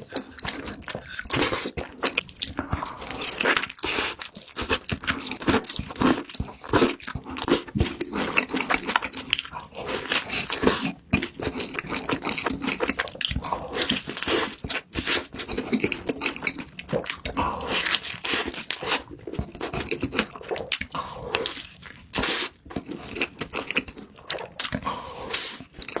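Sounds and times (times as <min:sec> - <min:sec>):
food being bitten and chewed: 0:00.0 - 0:26.0.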